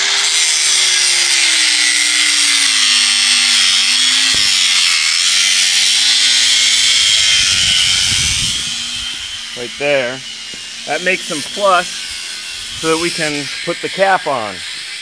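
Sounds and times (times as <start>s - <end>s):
angle grinder cutting steel rod: 0.0s - 15.0s.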